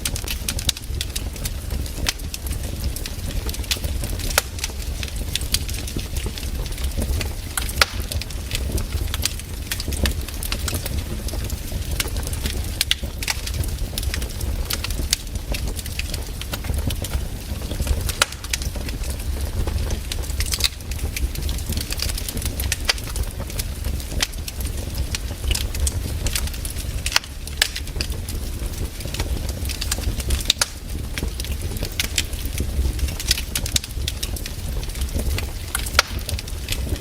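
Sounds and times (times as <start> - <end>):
campfire crackling and popping: 0.0 - 37.0
low fire rumble: 0.0 - 37.0.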